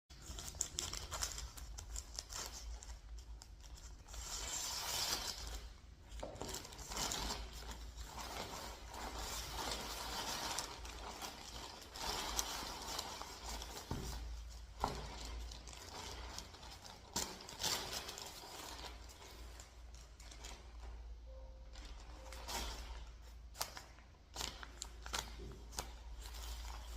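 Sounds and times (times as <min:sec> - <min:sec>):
plastic packaging crinkling: 0:00.1 - 0:26.9.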